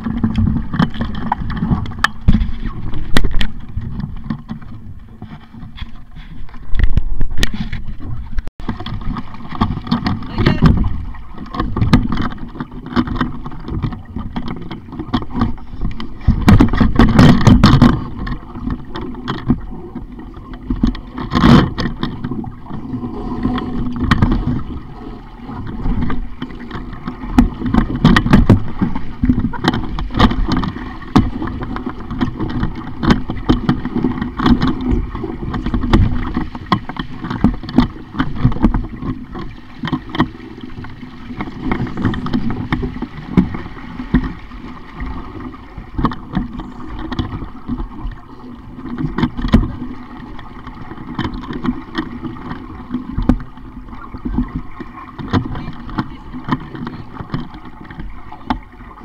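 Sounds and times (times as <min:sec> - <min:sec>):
water splashing against a hull: 0:00.0 - 0:59.0.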